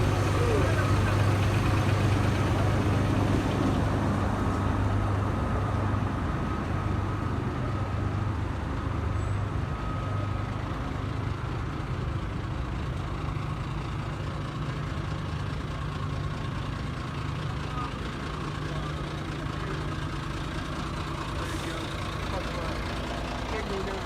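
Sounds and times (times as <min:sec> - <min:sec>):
heavy engine low hum: 0:00.0 - 0:24.0.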